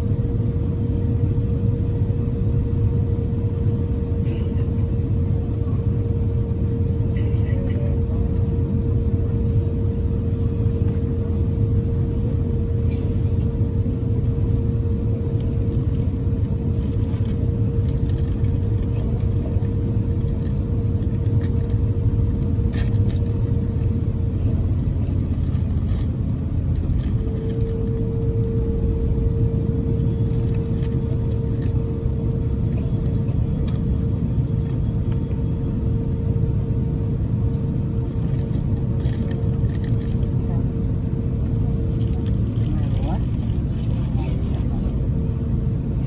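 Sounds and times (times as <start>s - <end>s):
aircraft engines rumbling: 0.0s - 46.0s.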